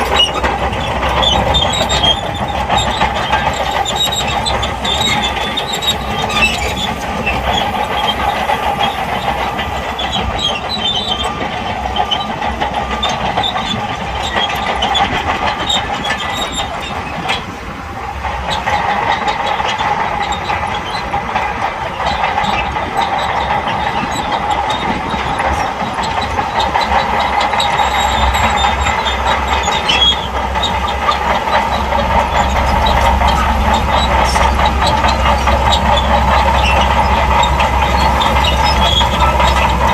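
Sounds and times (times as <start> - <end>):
bulldozer diesel engine: 0.0 - 39.9
steel tracks clanking: 0.0 - 39.9.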